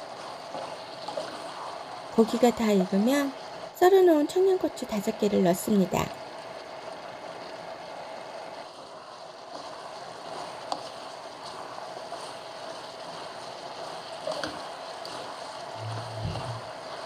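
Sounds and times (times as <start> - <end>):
curry sizzling in a frying pan: 0.0 - 17.0.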